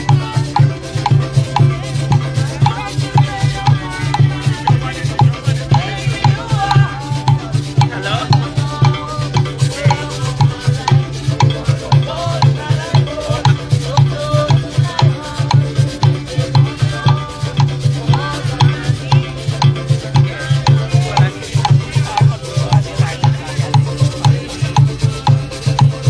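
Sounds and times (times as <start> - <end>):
drums and shakers beat: 0.0 - 26.0
folk melody line: 0.0 - 26.0.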